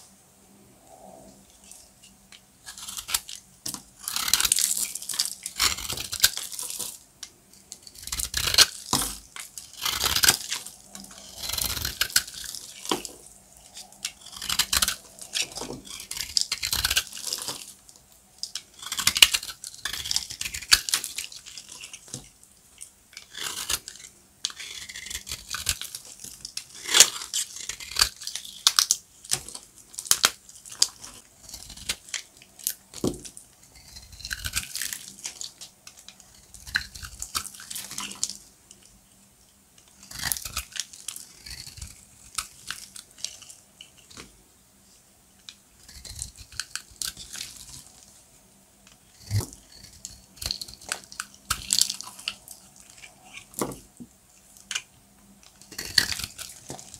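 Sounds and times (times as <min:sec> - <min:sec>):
hard soap crunching: 0:02.6 - 0:38.9, 0:39.8 - 0:44.3, 0:49.1 - 0:56.9.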